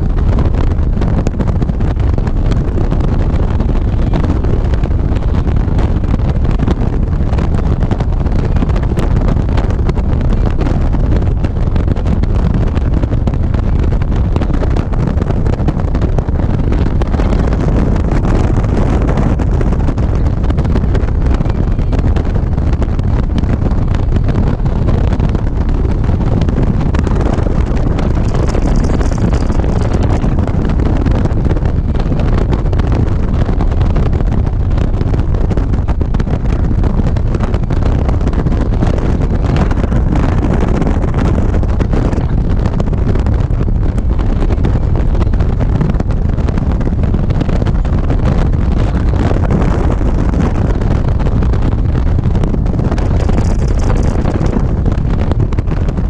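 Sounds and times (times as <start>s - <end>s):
motorcycle engine and tyre noise: 0.0s - 56.0s
wind buffeting microphone: 0.0s - 56.0s.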